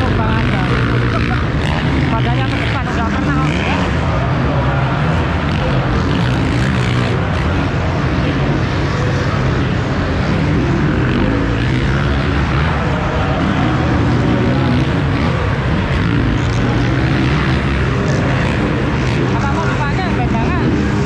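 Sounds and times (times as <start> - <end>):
two-stroke motocross bike engine: 0.0 - 21.0.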